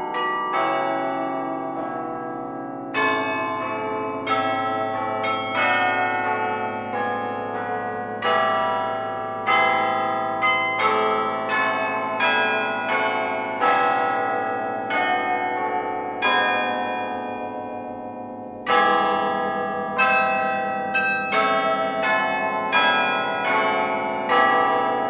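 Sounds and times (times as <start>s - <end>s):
bells playing slow tune: 2.9s - 25.0s.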